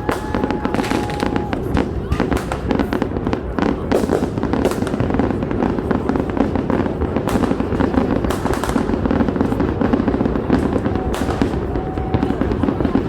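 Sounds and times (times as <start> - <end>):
fireworks booming and crackling: 0.0 - 13.0.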